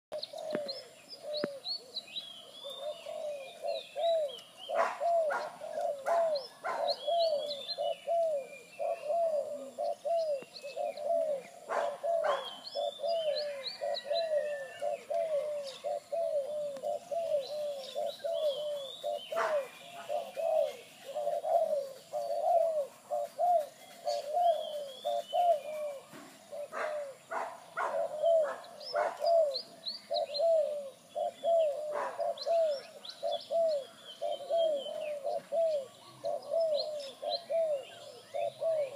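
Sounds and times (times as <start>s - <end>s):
doves cooing: 0.1s - 38.9s
small birds chirping: 0.1s - 38.9s.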